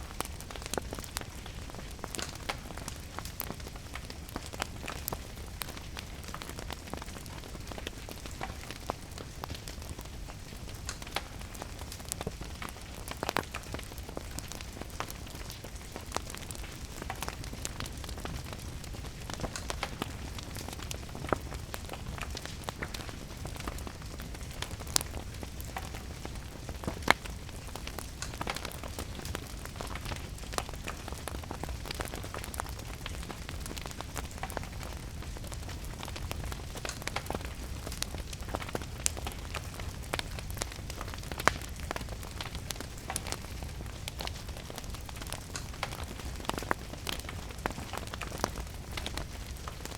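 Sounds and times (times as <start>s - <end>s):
steady rain: 0.0s - 49.9s
wood fire crackling and popping: 0.0s - 49.9s.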